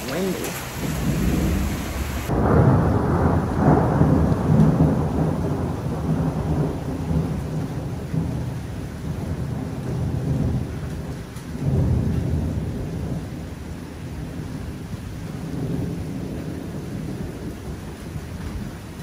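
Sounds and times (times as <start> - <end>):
rolling thunder: 0.0 - 19.0
steady rain: 0.0 - 19.0.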